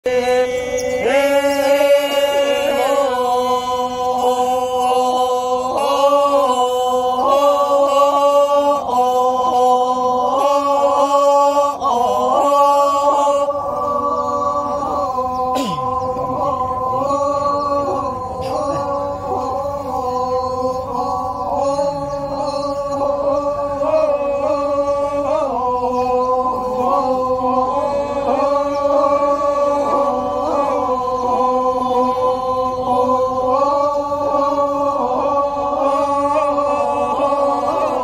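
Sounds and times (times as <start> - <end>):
men chanting: 0.0 - 38.0.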